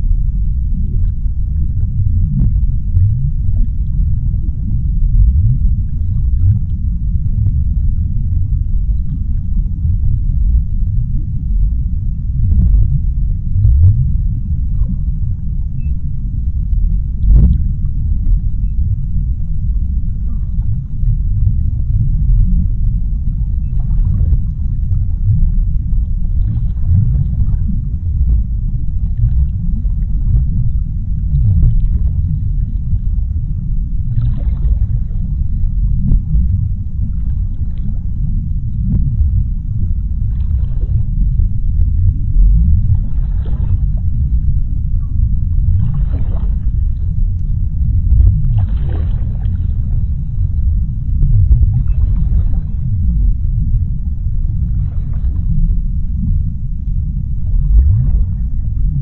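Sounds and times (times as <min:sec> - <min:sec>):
deep underwater rumble: 0:00.0 - 0:59.0
faint crackles and swishes: 0:00.0 - 0:59.0.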